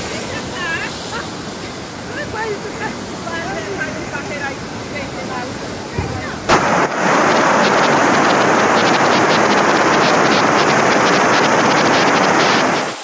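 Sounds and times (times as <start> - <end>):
floodwater rushing torrent: 0.0 - 13.0.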